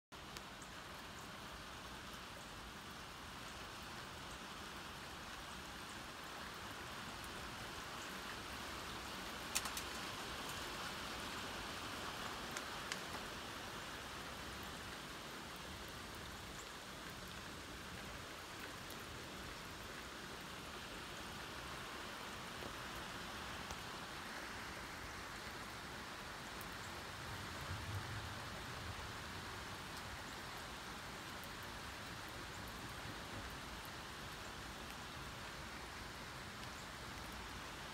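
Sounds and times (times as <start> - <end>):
rain pattering on a deck: 0.1 - 37.9.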